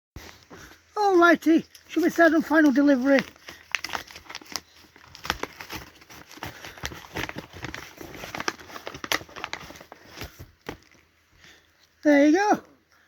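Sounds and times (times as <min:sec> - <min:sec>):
packaging crinkling and rustling: 0:00.2 - 0:12.0.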